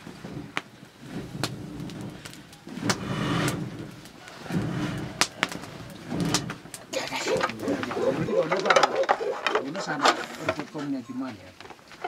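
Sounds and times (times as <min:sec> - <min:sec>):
low muffled bursts: 0:00.0 - 0:11.6
wood fire crackling and popping: 0:00.0 - 0:12.0.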